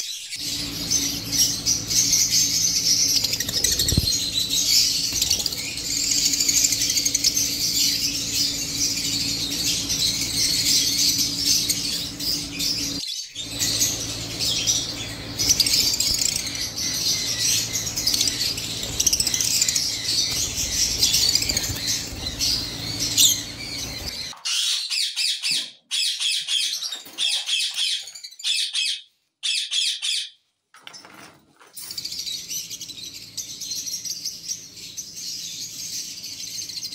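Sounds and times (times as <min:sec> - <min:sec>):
birds chirping shrilly: 0:00.0 - 0:30.4.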